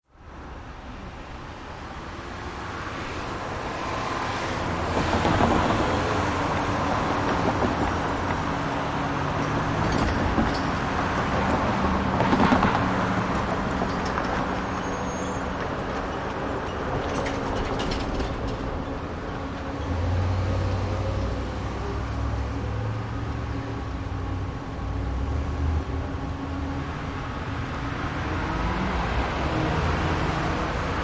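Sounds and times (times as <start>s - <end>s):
vehicles passing: 0.2s - 31.0s
steady engine hum: 3.5s - 31.0s.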